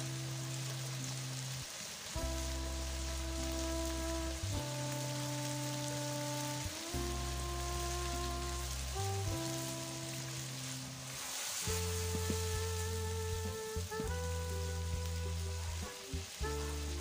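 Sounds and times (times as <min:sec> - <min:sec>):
background music held chords: 0:00.0 - 0:17.0
fish sizzling in oil: 0:00.0 - 0:17.0.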